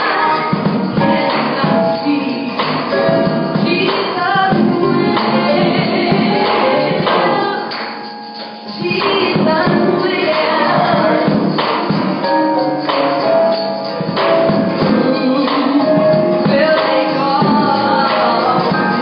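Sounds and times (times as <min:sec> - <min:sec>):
woman singing: 0:00.0 - 0:08.1, 0:08.7 - 0:11.9, 0:14.8 - 0:19.0
gospel band playing: 0:00.0 - 0:19.0
percussion hits: 0:00.0 - 0:19.0.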